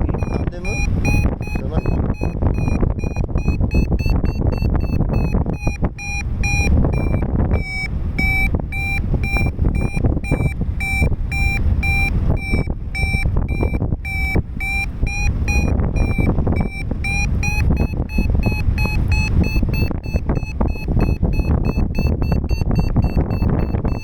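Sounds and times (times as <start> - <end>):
variometer beeping: 0.0 - 24.0
wind rushing on microphone: 0.0 - 24.0.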